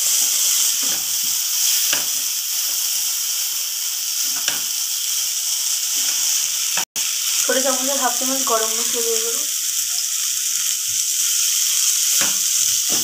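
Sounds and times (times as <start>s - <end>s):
filling sizzling in oil: 0.0s - 13.0s.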